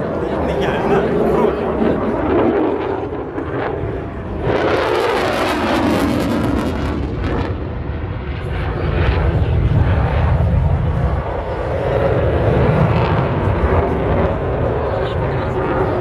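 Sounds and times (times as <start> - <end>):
jet aircraft roaring past: 0.0 - 16.0.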